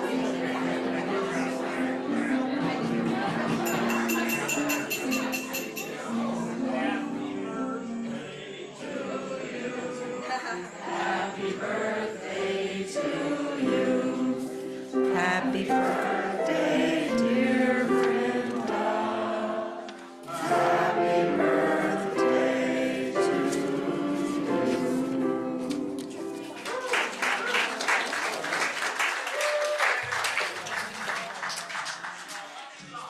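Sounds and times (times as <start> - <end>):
group of voices singing: 0.0 - 26.5.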